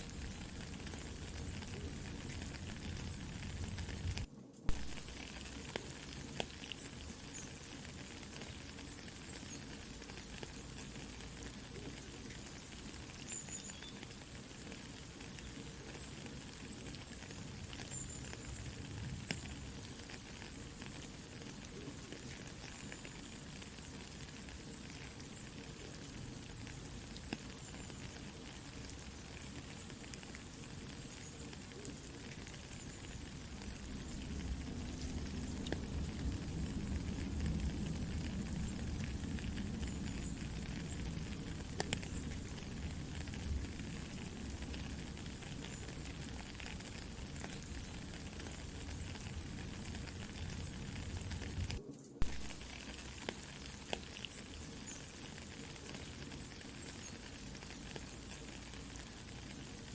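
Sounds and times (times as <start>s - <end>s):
campfire crackling: 0.0s - 59.9s
soft rain: 0.0s - 59.9s.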